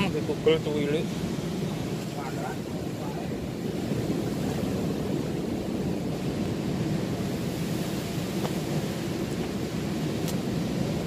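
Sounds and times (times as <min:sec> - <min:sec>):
waves breaking on rocky shore: 0:00.0 - 0:11.0
wind rumbling on microphone: 0:00.0 - 0:11.0.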